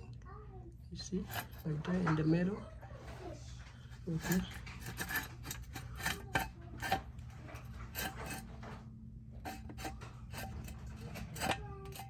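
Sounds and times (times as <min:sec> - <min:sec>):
metal scraping: 0:01.0 - 0:02.4, 0:03.0 - 0:12.0.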